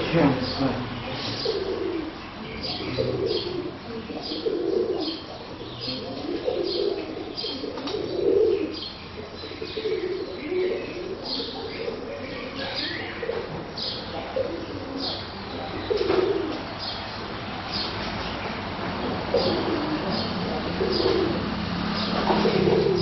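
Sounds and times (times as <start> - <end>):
pigeons cooing: 0.0 - 23.0
small birds chirping: 0.0 - 23.0.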